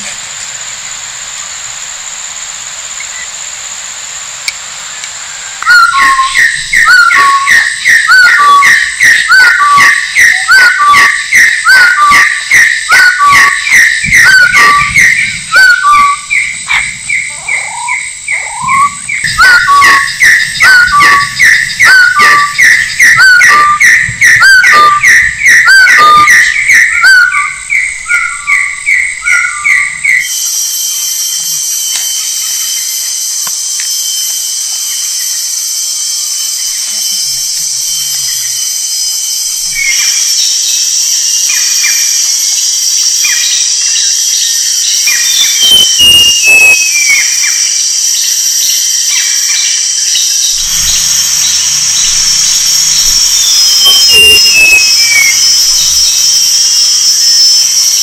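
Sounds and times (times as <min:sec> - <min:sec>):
steady high-pitched drone: 0:00.0 - 0:58.0
bird whistled calls: 0:05.4 - 0:58.0.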